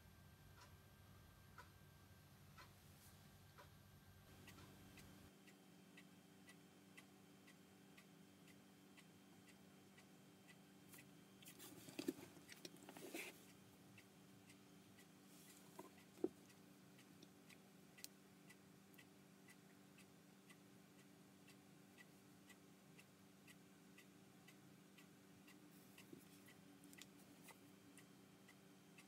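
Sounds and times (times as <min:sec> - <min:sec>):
low steady hum: 0:00.0 - 0:29.0
faint regular ticking: 0:03.4 - 0:29.0.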